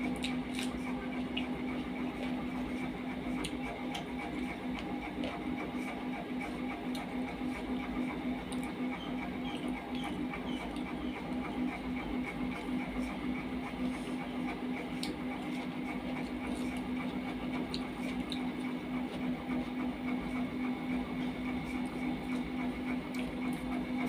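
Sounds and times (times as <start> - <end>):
mechanical hum with flutter: 0.0 - 24.0.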